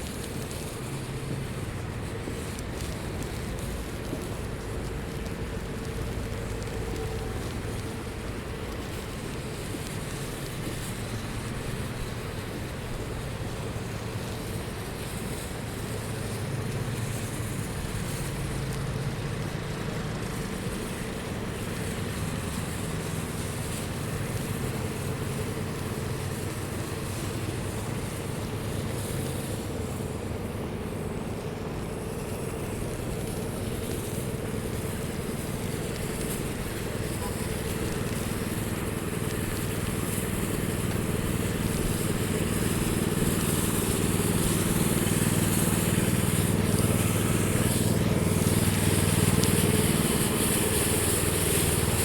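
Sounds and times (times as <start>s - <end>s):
traffic engines: 0.0s - 52.0s
tyres on wet snowy streets: 0.0s - 52.0s.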